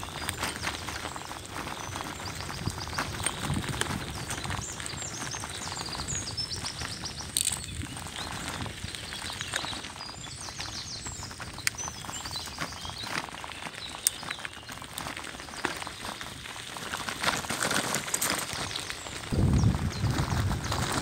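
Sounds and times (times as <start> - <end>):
songbirds singing: 0.0 - 17.0, 18.2 - 21.0
bicycle tyres on rough road: 0.0 - 21.0.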